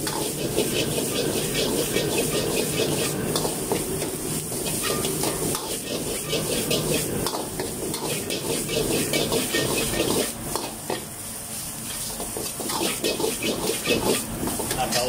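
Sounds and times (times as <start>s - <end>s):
metal ladle scraping a wok: 0.0s - 11.1s, 11.8s - 15.0s
rice sizzling in oil in a wok: 0.0s - 15.0s.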